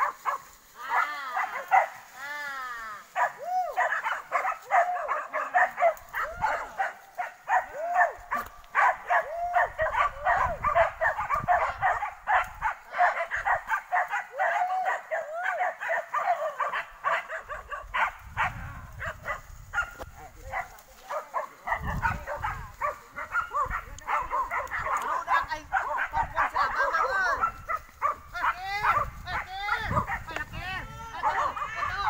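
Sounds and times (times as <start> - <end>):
dogs barking and yelping: 0.0 - 2.1, 3.0 - 32.0.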